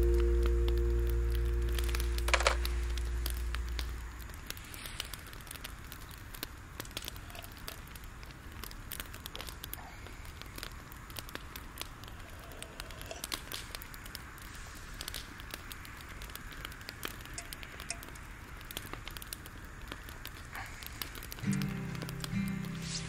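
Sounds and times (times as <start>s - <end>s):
grill fuel crackling and popping: 0.0s - 23.0s.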